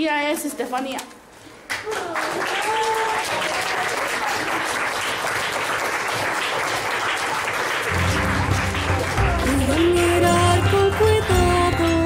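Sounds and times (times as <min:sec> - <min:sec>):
children clapping: 0:01.7 - 0:11.5.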